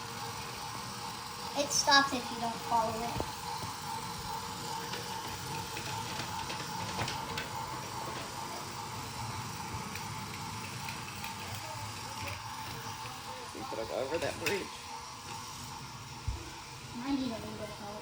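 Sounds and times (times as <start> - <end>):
toy train motor whirring: 0.0 - 18.0.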